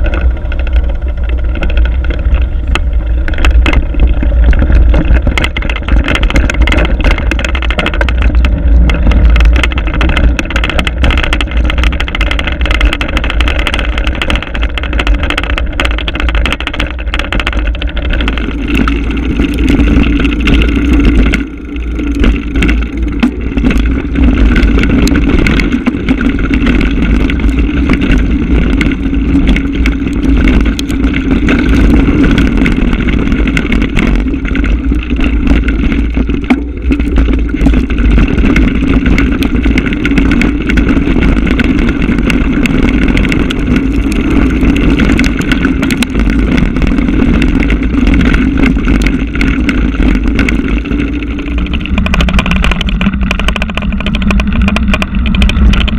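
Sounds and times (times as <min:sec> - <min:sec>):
bike tyres rattling over dirt and rock: 0:00.0 - 0:55.9
wind rumble on microphone: 0:00.0 - 0:55.9.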